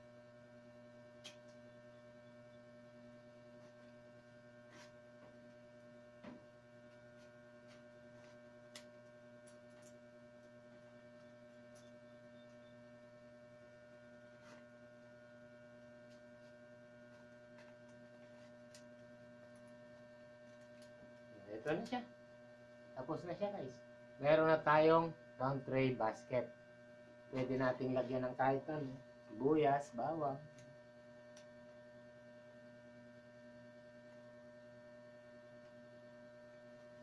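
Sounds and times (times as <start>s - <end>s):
faint electrical hum: 0.0s - 37.0s.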